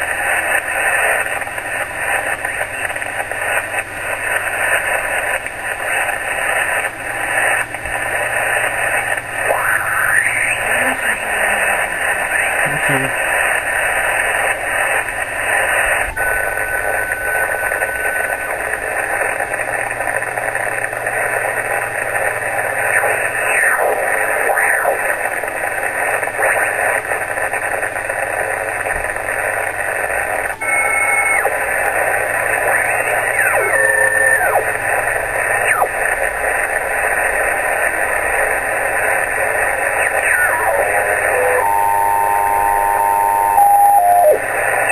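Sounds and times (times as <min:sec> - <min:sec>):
radio interference hiss: 0:00.0 - 0:44.9
radio whistles and sliding tones: 0:00.0 - 0:44.9.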